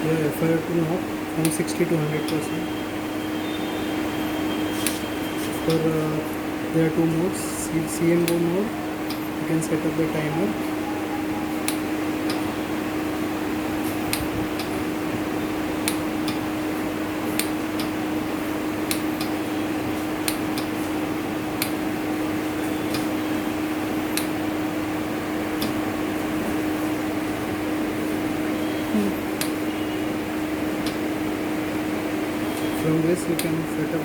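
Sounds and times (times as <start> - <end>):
ventilator hum and hiss: 0.0 - 34.0.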